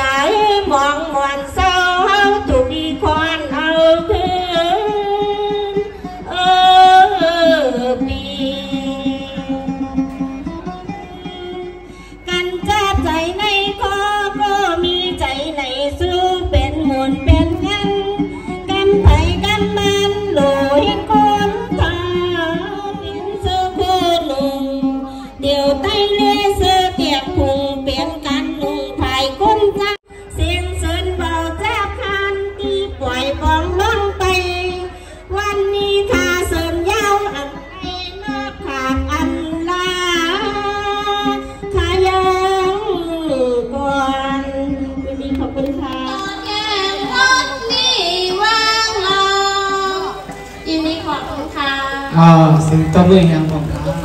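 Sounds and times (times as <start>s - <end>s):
plucked lute: 0.0s - 54.0s
traditional ensemble: 0.0s - 54.0s
woman singing into microphone: 0.0s - 54.0s.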